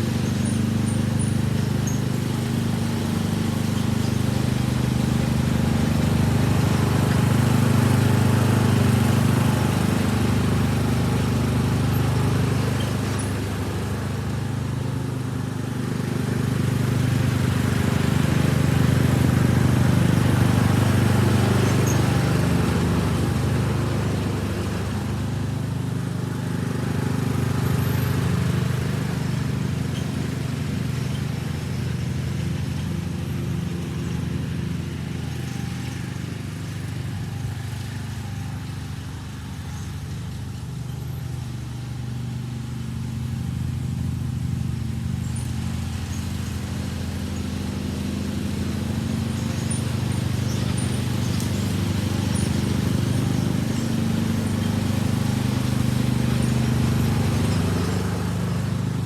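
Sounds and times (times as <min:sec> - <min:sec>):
riding lawn mower engine: 0:00.0 - 0:59.0.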